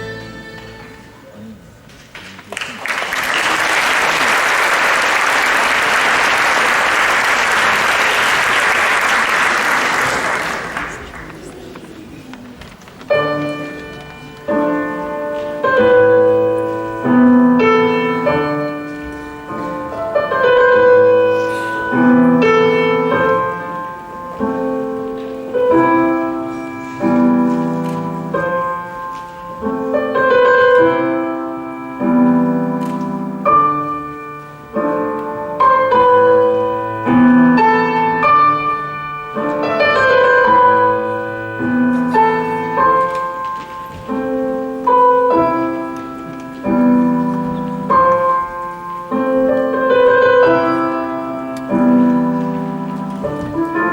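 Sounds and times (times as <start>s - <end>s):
slow solo piano piece: 10.0s - 53.9s.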